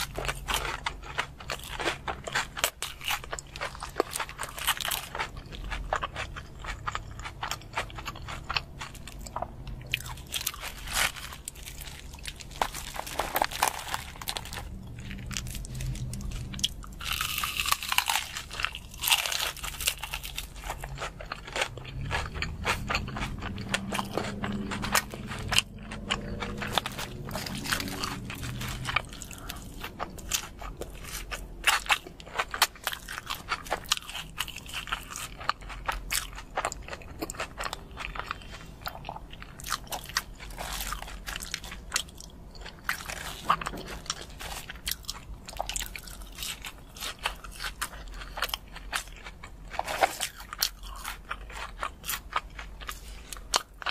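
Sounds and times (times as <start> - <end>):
crunchy eating and chewing: 0.0 - 53.9.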